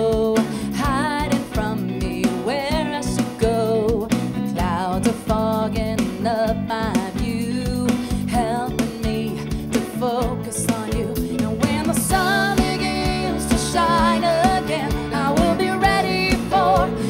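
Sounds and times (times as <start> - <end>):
live rock band playing: 0.0 - 17.0
woman singing with vibrato: 0.0 - 17.0.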